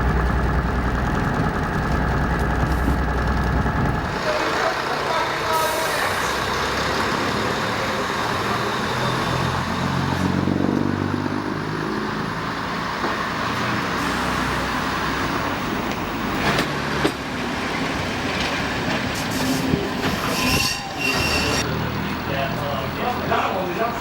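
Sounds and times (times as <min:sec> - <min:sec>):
diesel locomotive engine: 0:00.0 - 0:24.0
rail noise: 0:00.0 - 0:24.0.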